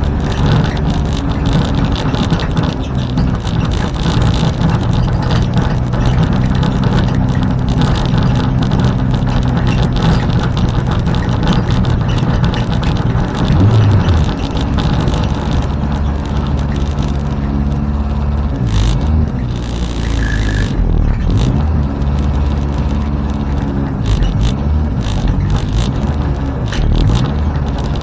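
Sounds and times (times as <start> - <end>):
car engine running: 0.0 - 28.0
knocks and rattles: 0.0 - 28.0.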